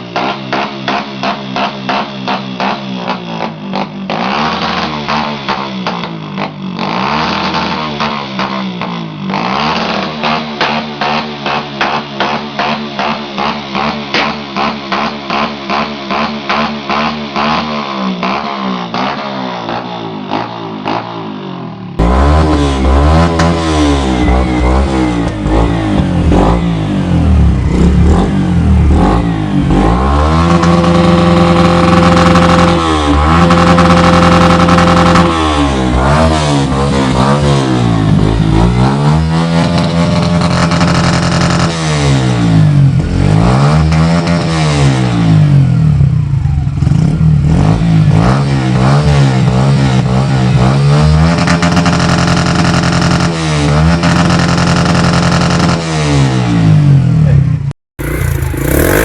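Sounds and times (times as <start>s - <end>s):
motorcycle engine stuttering: 0.0s - 56.7s, 58.0s - 59.0s
motorcycle engine revving: 0.0s - 57.4s, 58.0s - 59.0s.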